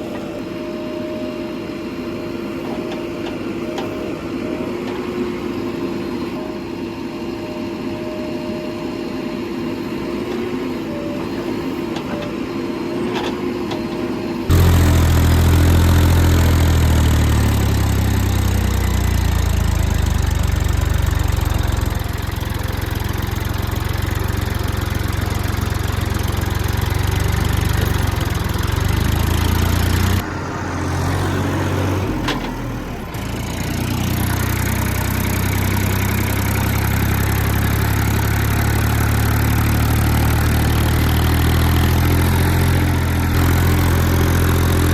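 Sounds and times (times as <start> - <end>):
diesel engine rumbling: 0.0 - 44.9.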